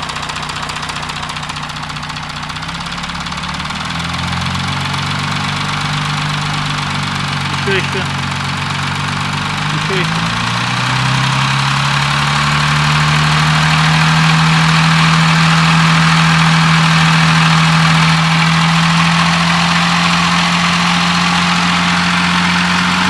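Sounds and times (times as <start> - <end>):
diesel engine at raised revs: 0.0 - 23.0
engine clattering knock: 0.0 - 23.0.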